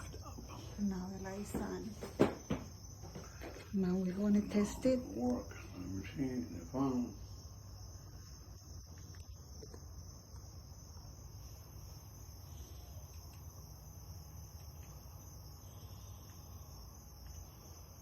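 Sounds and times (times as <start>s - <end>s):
crickets chirping: 0.0s - 18.0s
low steady hum: 0.0s - 18.0s.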